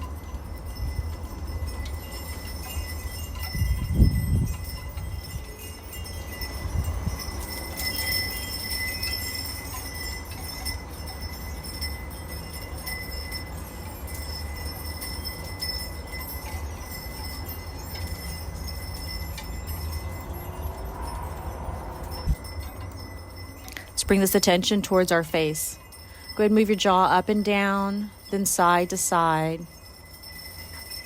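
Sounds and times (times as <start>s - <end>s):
low rumble of wind: 0.0s - 31.0s
wind chimes ringing: 0.0s - 31.0s.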